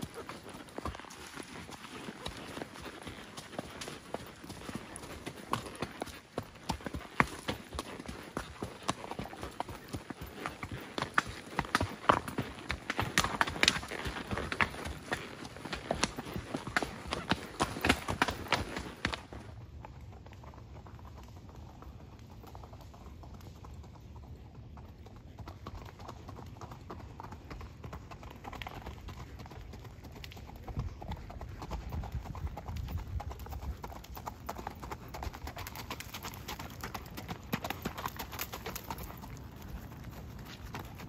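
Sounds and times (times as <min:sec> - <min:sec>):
hoofbeats on gravel: 0:00.0 - 0:41.0.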